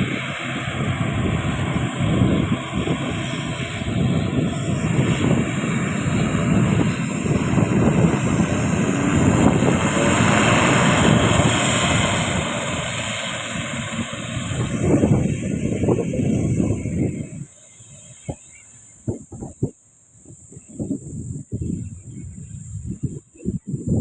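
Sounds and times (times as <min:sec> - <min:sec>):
turboprop airliner drone: 0:00.0 - 0:24.0.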